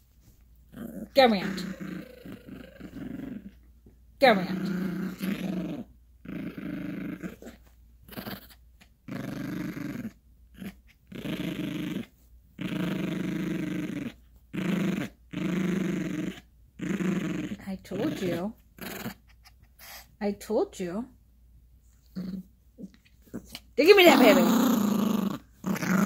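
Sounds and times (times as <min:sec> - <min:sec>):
puppy play-growling: 0:00.1 - 0:20.2, 0:21.9 - 0:26.0.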